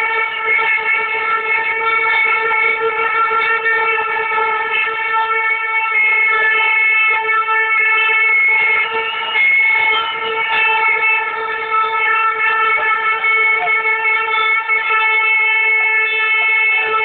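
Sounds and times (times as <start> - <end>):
horn long steady tone: 0.0 - 17.0.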